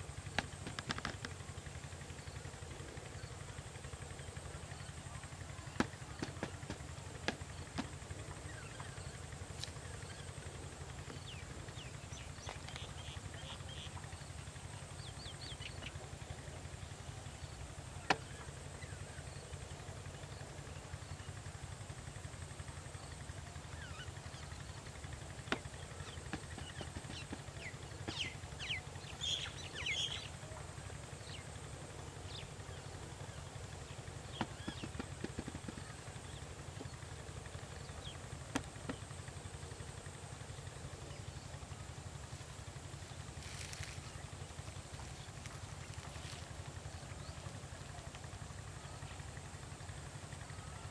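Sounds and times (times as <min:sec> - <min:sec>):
small birds chirping: 0:00.0 - 0:21.4, 0:22.8 - 0:50.9.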